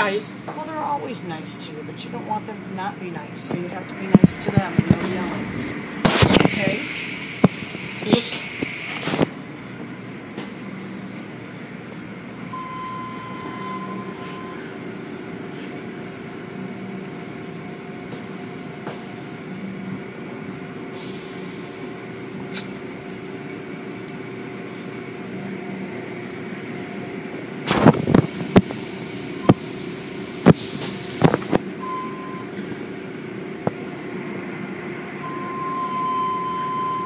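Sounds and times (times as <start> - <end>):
car wash machinery humming: 0.0 - 37.0.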